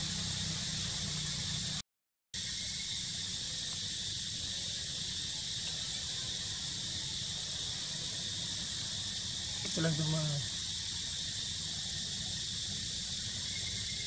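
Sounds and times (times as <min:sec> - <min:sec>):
high-pitched insect drone: 0:00.0 - 0:01.8, 0:02.4 - 0:14.0.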